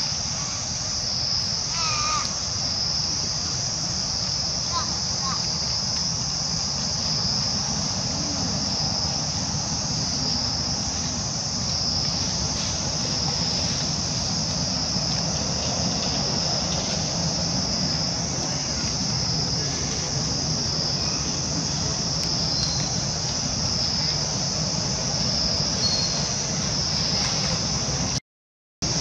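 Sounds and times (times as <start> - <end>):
high-pitched insect chorus: 0.0 - 28.2
low steady rumble: 0.0 - 28.2.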